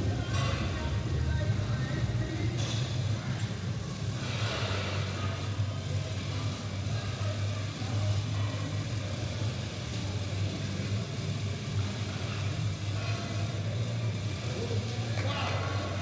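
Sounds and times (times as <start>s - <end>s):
low hum of room noise: 0.0s - 16.0s.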